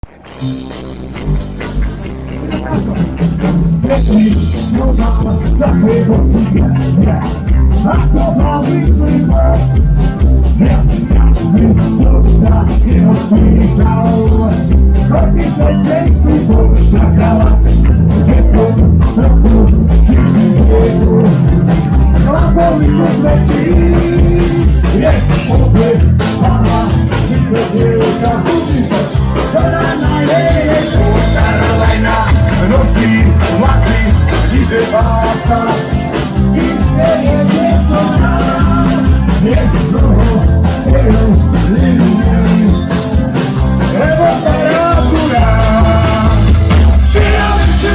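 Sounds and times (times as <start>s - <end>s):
driving drum beat: 0.0s - 47.9s
punk rock band playing live: 0.0s - 47.9s.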